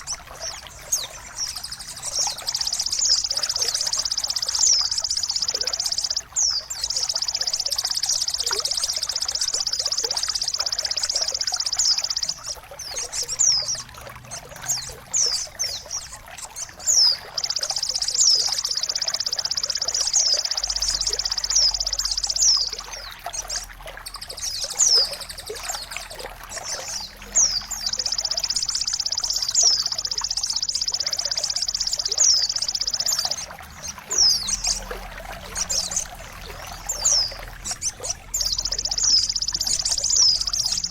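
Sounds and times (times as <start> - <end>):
buzzing bird trill: 0.0 - 13.9, 14.6 - 40.9
water trickling: 0.0 - 40.9.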